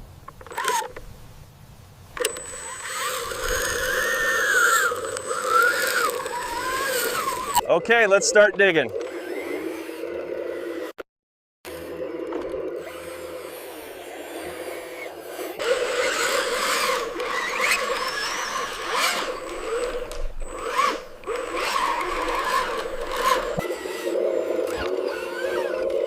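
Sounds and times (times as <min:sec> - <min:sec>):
small motor whining: 0:00.4 - 0:01.0, 0:02.2 - 0:11.0, 0:11.7 - 0:26.0.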